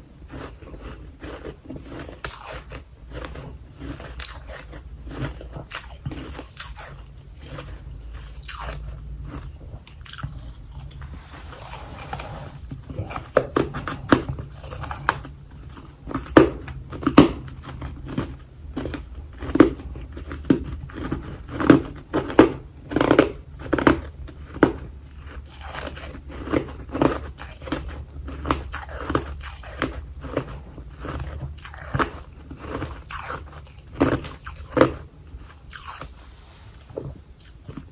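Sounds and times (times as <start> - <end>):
person chewing crunchy frost: 0.0 - 37.9.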